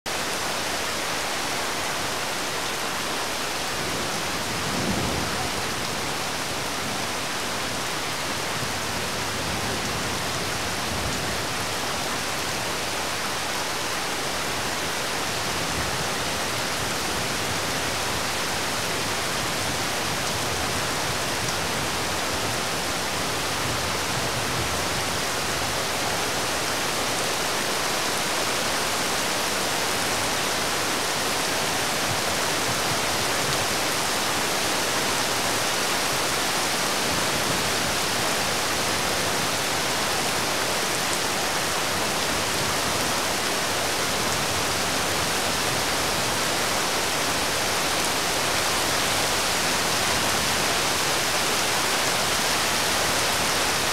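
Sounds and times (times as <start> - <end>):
steady rain falling: 0.1 - 53.9.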